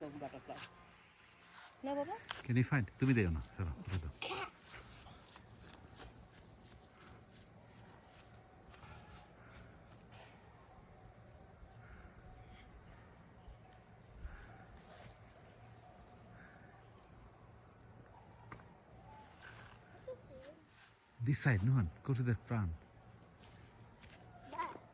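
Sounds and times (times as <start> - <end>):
insects trilling: 0.0 - 24.9.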